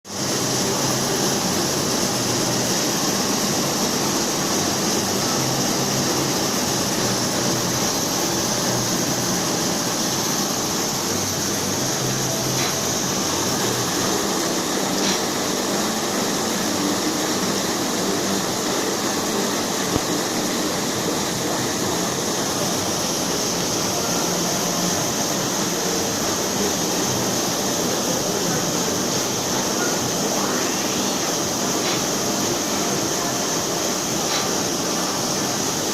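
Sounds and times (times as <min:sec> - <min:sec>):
machinery hiss and hum: 0:00.1 - 0:35.9.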